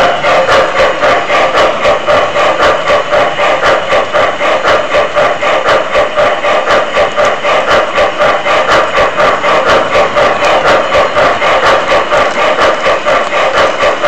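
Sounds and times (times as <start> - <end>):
model steam train rhythmic beat: 0.0 - 14.0
train running noise: 0.0 - 14.0.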